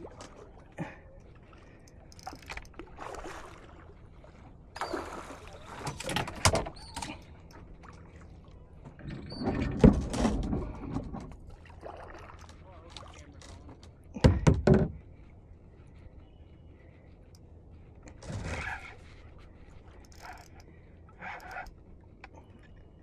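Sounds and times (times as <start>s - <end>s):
water sloshing against kayak hull: 0.0s - 23.0s.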